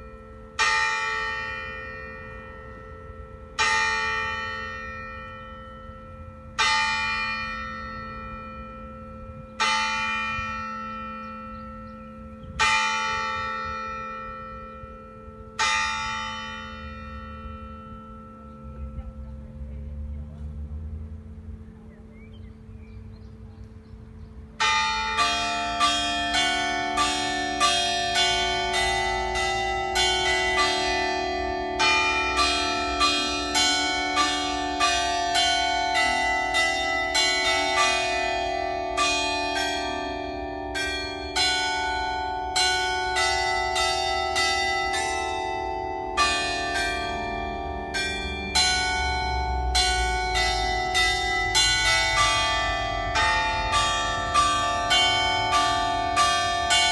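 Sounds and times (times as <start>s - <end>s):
church bell ringing: 0.0s - 20.6s, 23.0s - 56.9s.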